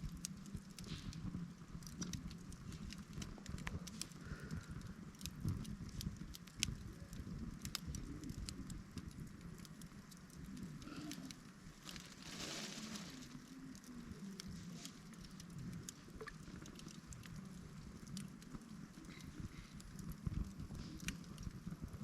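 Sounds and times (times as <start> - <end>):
campfire crackling and popping: 0.0 - 22.0
fire hissing: 0.0 - 22.0
low rumble of flame: 0.0 - 22.0.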